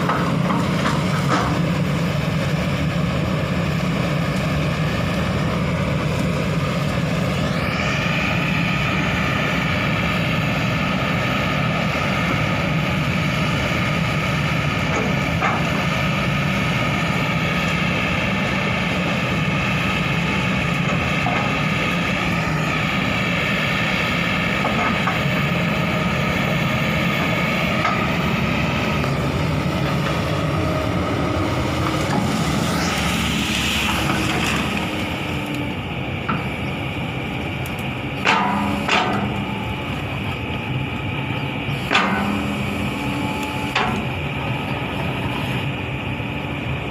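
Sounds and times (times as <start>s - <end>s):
excavator diesel engine drone: 0.0s - 46.9s
high hydraulic whine: 0.0s - 46.9s.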